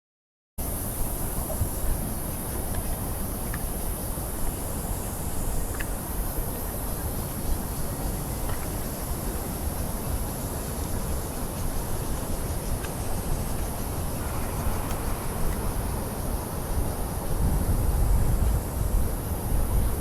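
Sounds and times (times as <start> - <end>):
wind rumbling on microphone: 0.6 - 20.0.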